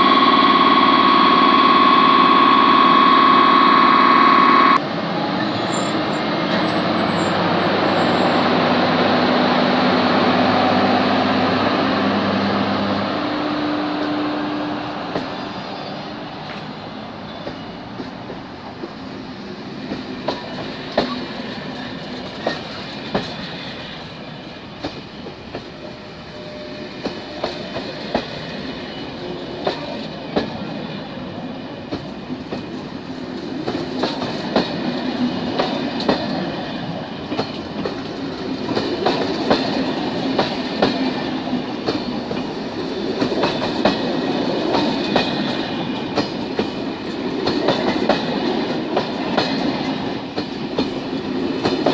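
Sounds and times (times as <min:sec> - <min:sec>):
train rumbling along track: 0:00.0 - 0:51.9.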